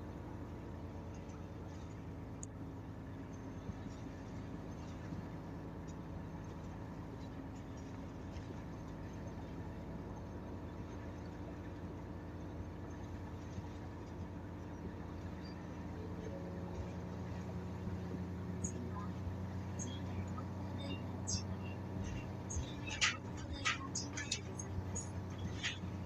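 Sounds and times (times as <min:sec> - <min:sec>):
bus diesel engine humming: 0:00.0 - 0:26.0.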